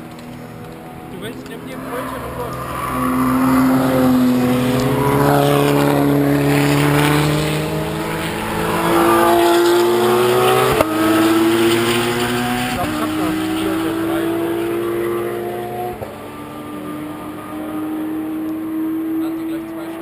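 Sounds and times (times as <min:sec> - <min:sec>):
car engines accelerating: 0:00.0 - 0:20.0.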